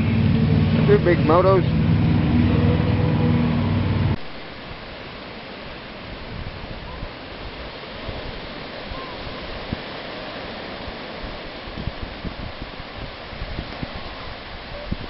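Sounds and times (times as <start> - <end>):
ocean surf breaking on sand: 0.0 - 15.0.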